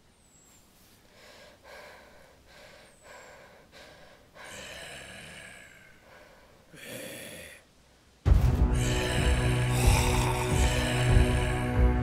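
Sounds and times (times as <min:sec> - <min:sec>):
woman breathing hard: 0:01.1 - 0:07.6, 0:08.7 - 0:12.0.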